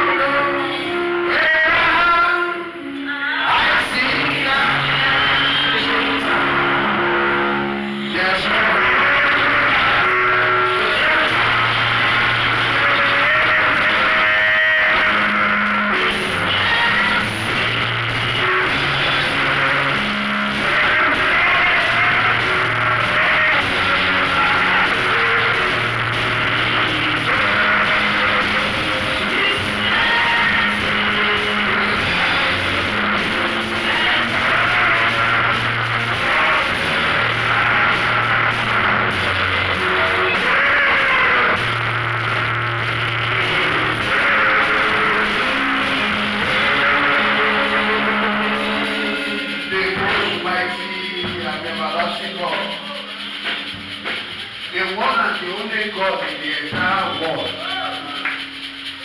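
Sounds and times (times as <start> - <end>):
electric guitar: 0.0 - 54.7
live band music: 0.0 - 59.0
people singing: 0.0 - 59.0
held bass notes: 3.5 - 53.8
drums: 3.5 - 59.0
sustained keyboard chords: 3.6 - 53.4.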